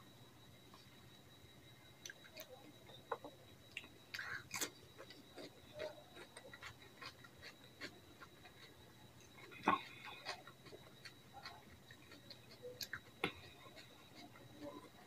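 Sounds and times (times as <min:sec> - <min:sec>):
wet chewing clicks and smacks: 0:02.0 - 0:15.0.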